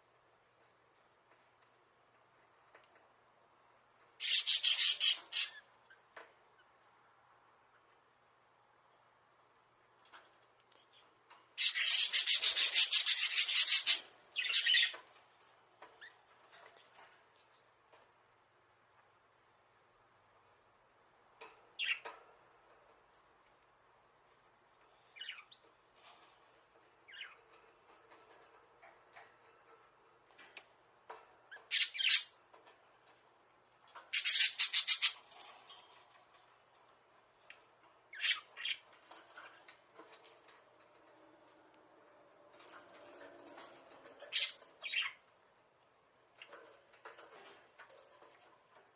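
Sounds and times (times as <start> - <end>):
faint clicks and scratches: 0.0 - 48.9.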